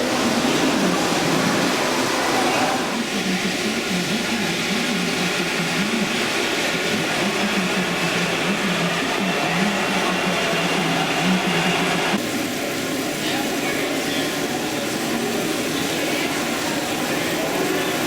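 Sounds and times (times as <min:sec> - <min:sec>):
model trains humming and rattling: 0:00.0 - 0:18.0.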